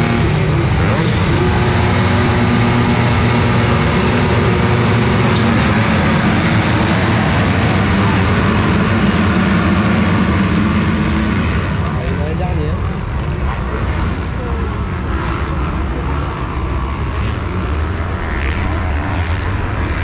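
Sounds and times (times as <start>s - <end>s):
continuous rushing noise: 0.0s - 20.0s
motocross bike engine running hard: 0.0s - 20.0s.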